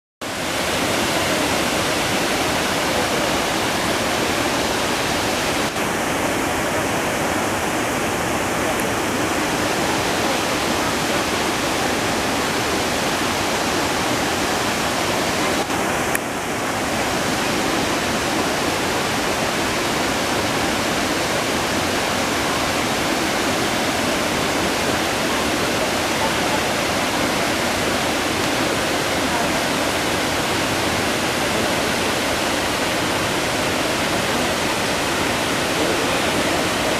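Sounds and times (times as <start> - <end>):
waterfall rushing: 0.2 - 36.9.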